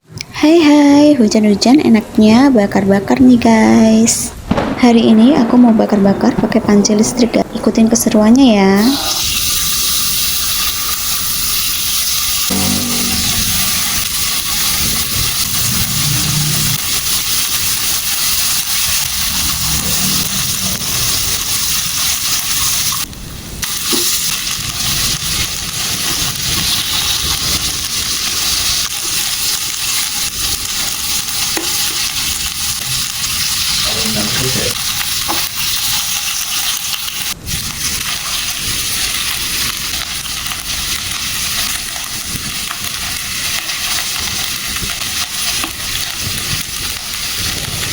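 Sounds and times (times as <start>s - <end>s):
food sizzling on grill: 8.2s - 47.9s.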